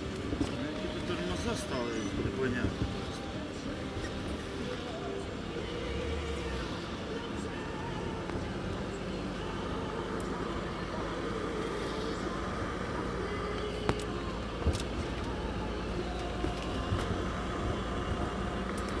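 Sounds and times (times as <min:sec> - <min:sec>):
car engine hum and road noise: 0:00.0 - 0:19.0.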